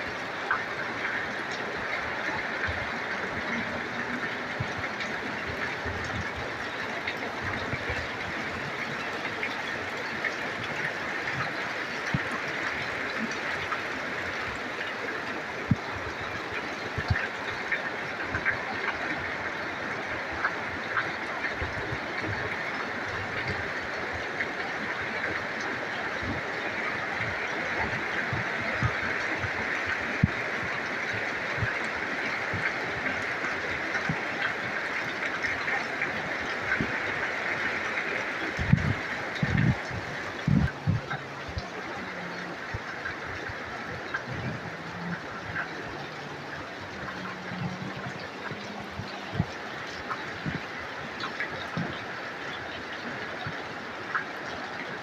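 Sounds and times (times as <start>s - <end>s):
heavy rain falling: 0.0s - 55.0s
water drops and drips: 0.0s - 55.0s.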